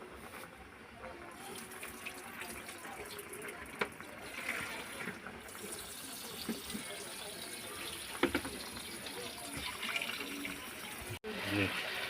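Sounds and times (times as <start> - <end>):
liquid in a cooking pot: 0.0 - 12.0.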